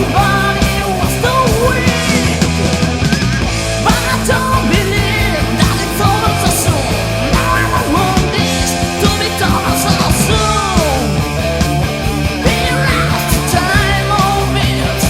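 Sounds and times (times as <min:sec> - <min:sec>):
bending lead guitar line: 0:00.0 - 0:15.0
heavy metal band playing: 0:00.0 - 0:15.0.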